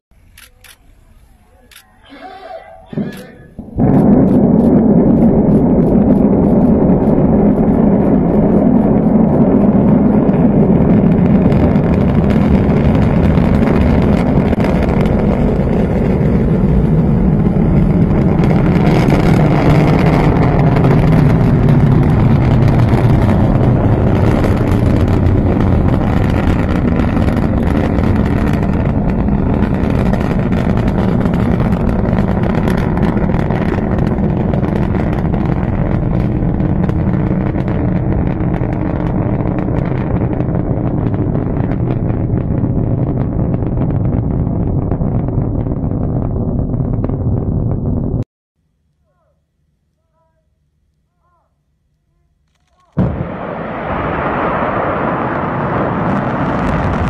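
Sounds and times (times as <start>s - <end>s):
distant rocket engine rumble: 0.1s - 48.2s, 53.0s - 57.0s.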